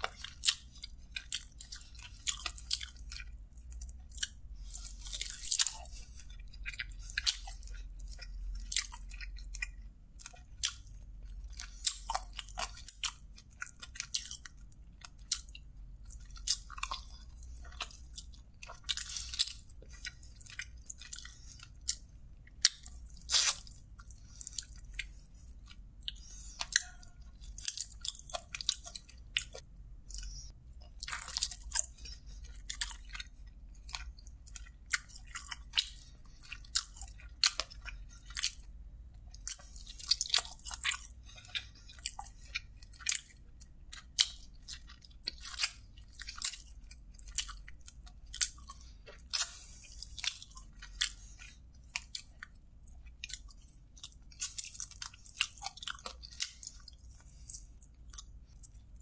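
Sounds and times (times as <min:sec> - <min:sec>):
chewing with wet mouth smacks: 0:00.0 - 0:59.0.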